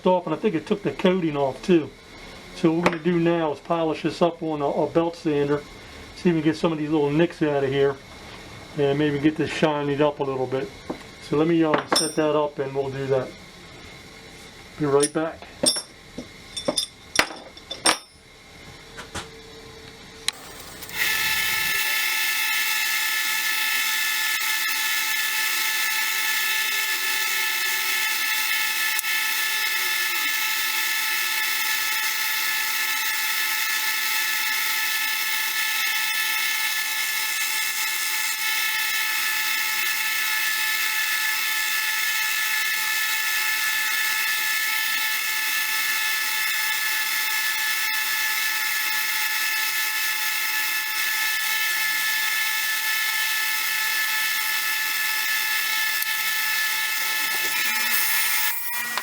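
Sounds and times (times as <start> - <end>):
belt sander whining: 0.2 - 59.0.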